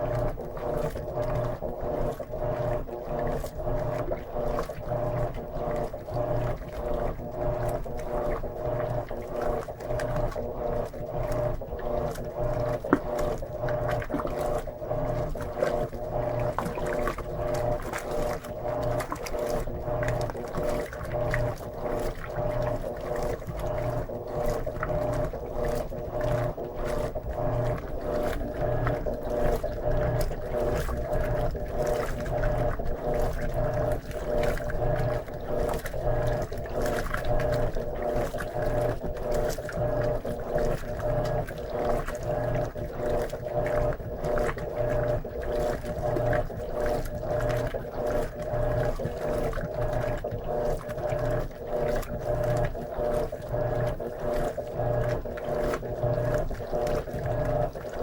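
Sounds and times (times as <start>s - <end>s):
agitator churning water: 0.0s - 58.0s
washing machine motor humming: 0.0s - 58.0s.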